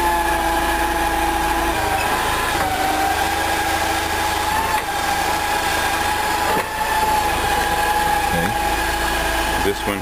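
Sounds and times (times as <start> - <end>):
forklift whine and hum: 0.0 - 10.0.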